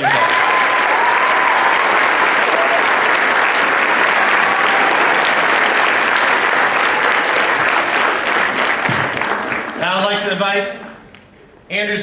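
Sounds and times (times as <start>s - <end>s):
large audience applauding: 0.0s - 10.2s.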